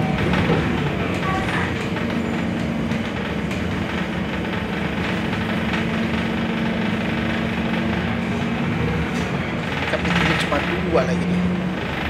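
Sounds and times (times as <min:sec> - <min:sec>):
bus engine droning hum: 0:00.0 - 0:12.0.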